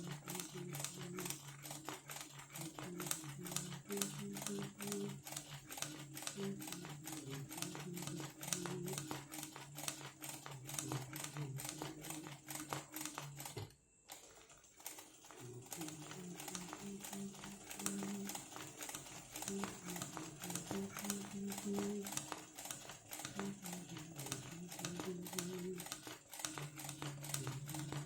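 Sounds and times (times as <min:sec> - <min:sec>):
sewing machine stitching: 0:00.0 - 0:28.0.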